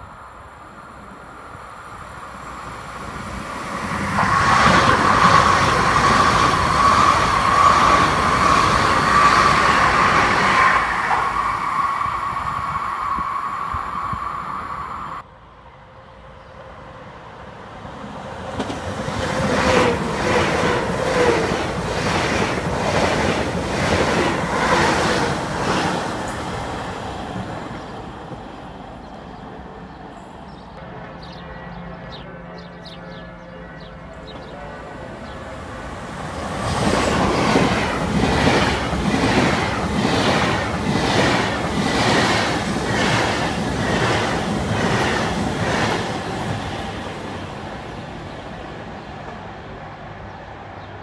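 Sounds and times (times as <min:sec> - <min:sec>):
train rushing rumble: 0:00.0 - 0:15.3, 0:16.1 - 0:31.4, 0:34.6 - 0:51.0.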